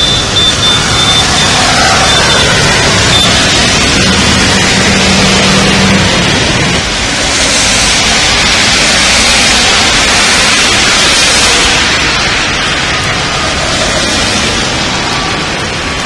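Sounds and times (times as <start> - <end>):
heavy rain pouring on road: 0.0 - 16.0.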